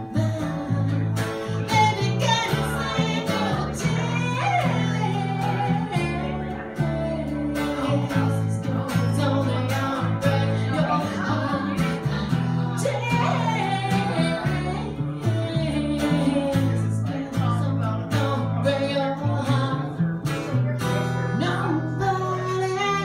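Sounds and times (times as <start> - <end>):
bowed upright bass: 0.0 - 23.0
strummed acoustic guitar: 0.0 - 23.0
woman singing: 0.0 - 23.0.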